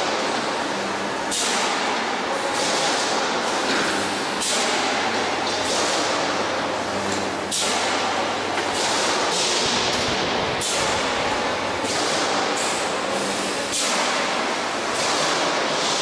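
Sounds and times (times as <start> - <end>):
production line machinery running: 0.0 - 16.0.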